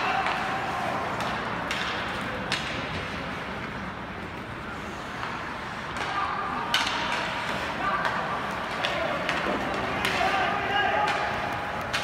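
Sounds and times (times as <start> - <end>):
hubbub of ice rink: 0.0 - 12.0.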